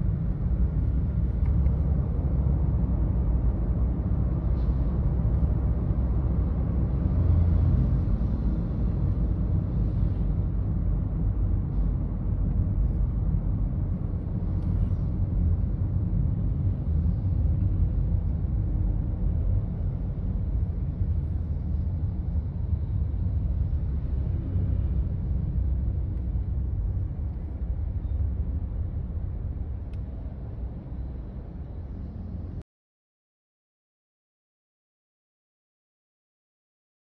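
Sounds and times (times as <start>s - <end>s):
car driving rumble: 0.0s - 32.6s
road and wind noise: 0.0s - 32.6s.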